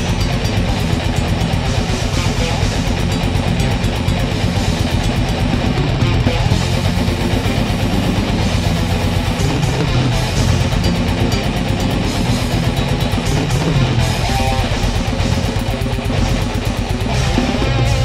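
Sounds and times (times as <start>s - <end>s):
bass guitar: 0.0s - 18.0s
distorted electric guitars: 0.0s - 18.0s
fast dense drumming: 0.0s - 18.0s.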